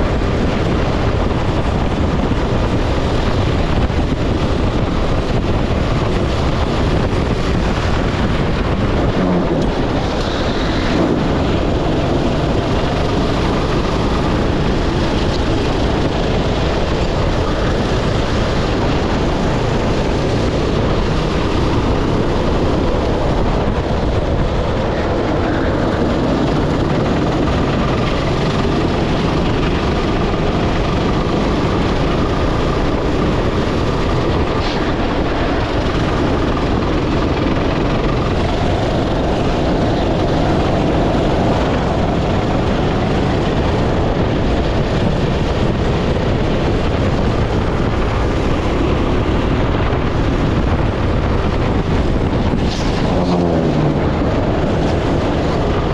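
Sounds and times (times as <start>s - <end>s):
go-kart engine revving: 0.0s - 55.9s
rush of wind noise: 0.0s - 55.9s.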